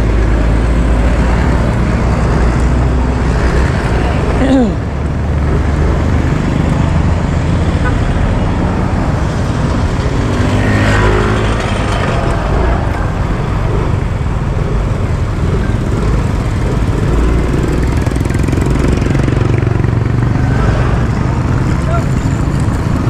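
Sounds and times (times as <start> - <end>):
vehicle engine rumble: 0.0 - 23.0
wind and road noise: 0.0 - 23.0.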